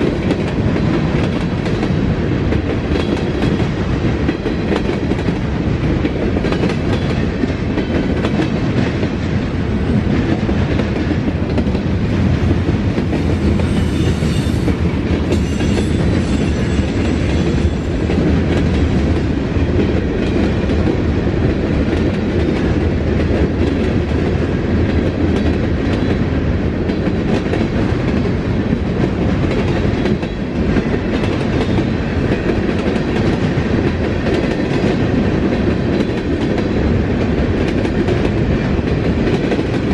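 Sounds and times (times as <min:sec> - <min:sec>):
freight train rolling by: 0:00.0 - 0:39.9.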